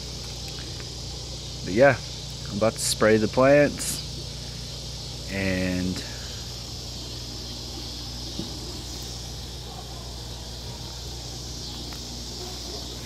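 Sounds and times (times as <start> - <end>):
insects chorus: 0.0 - 13.0
low steady hum: 0.0 - 13.0.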